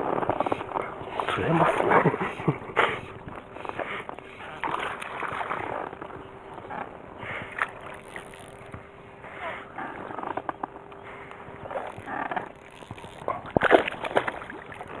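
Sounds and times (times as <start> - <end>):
water splashing and sloshing: 0.0 - 9.3, 11.0 - 15.0.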